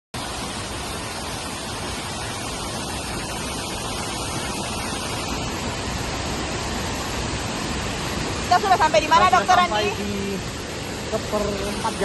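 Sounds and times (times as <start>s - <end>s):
small waterfall rushing: 0.2s - 12.0s.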